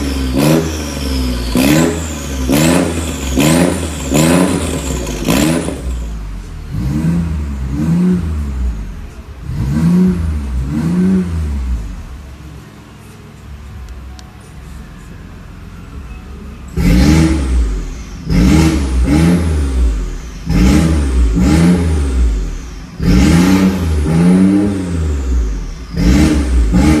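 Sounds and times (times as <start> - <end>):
muffled engine revs from inside: 0.0 - 12.2, 16.7 - 27.0
car engine revving: 0.0 - 12.3, 16.7 - 27.0.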